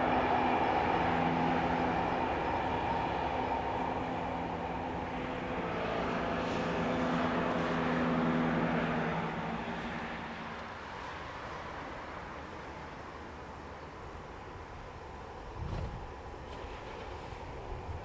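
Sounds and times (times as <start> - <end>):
passenger train drone: 0.0 - 18.0.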